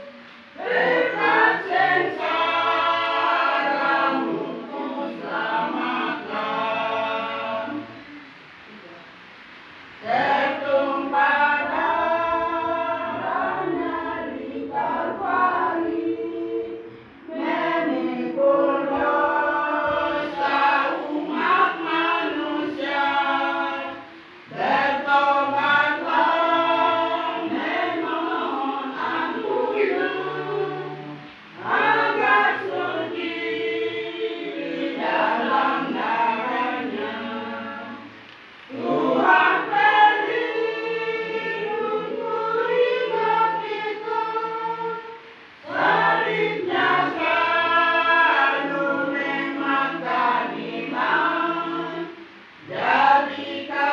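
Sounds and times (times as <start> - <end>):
choir singing: 0.0 - 8.7, 10.0 - 53.9.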